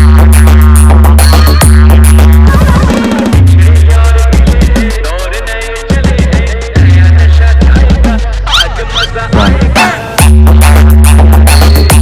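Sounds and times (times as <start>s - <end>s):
electronic dance music: 0.0s - 12.0s
heavy sub-bass: 0.0s - 12.0s.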